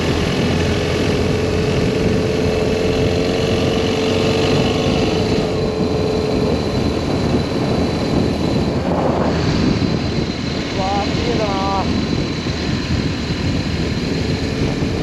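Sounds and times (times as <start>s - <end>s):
motorcycle engine running: 0.0s - 15.0s
steady whine: 0.0s - 15.0s
wind and road noise: 0.0s - 15.0s.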